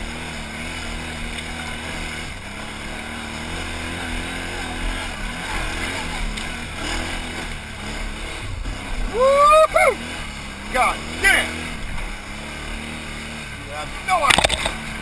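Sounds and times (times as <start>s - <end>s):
atv engine running under load: 0.0s - 15.0s.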